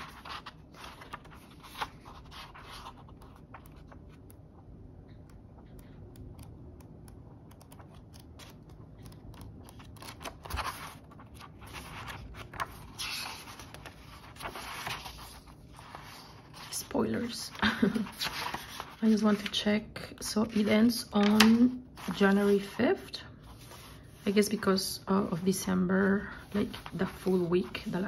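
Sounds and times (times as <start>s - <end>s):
paper pages rustling: 0.0s - 4.2s, 7.7s - 25.0s, 26.1s - 28.0s.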